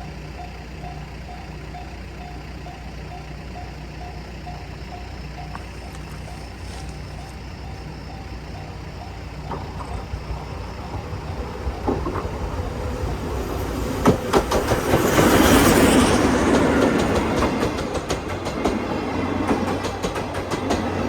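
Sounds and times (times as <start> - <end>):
level crossing alarm ringing: 0.0 - 17.0
steam train approaching: 0.0 - 21.0
wheels clicking over rail joints: 0.0 - 21.0.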